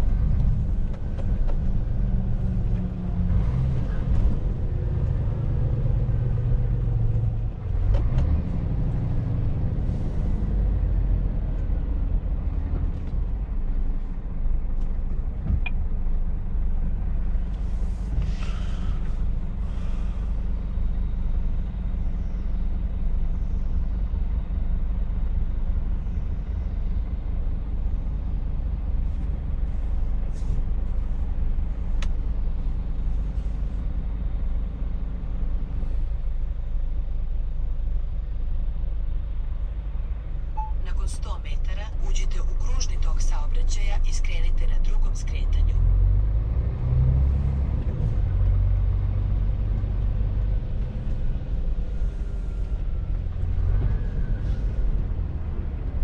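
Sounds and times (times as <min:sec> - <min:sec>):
road noise: 0:00.0 - 0:56.0
truck diesel engine rumble: 0:00.0 - 0:56.0.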